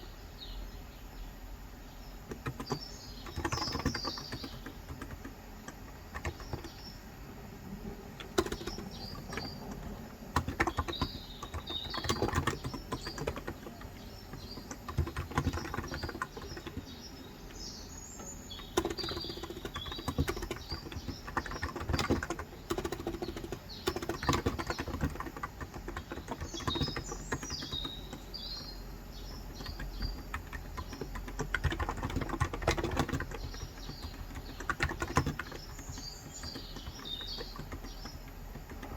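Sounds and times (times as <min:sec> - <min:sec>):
birds chirping outside: 0:00.0 - 0:38.9
keyboard typing keystrokes: 0:02.2 - 0:07.1, 0:08.1 - 0:38.9.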